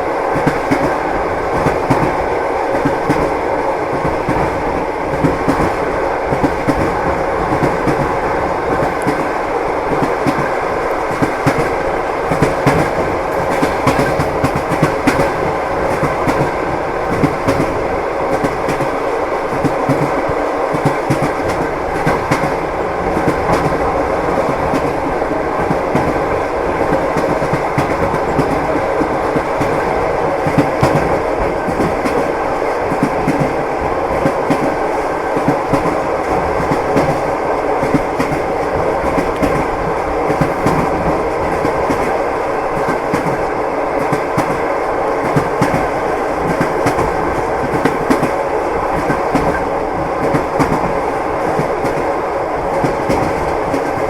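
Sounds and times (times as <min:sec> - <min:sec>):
train wheels clacking: 0:00.0 - 0:54.0.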